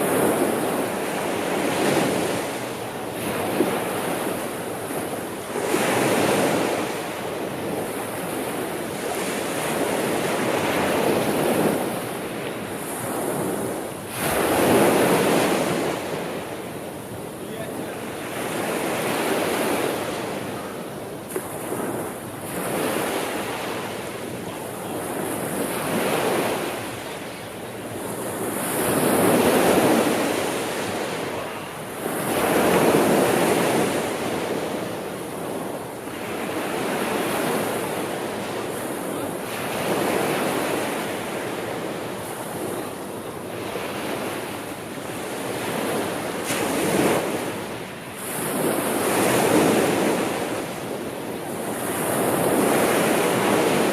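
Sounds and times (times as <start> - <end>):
sea waves breaking on shore: 0.0 - 53.9
wind: 0.0 - 53.9.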